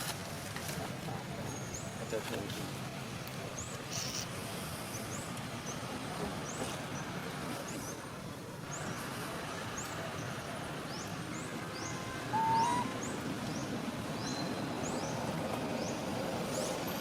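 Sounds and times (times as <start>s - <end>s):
steady forest hiss: 0.0s - 17.0s.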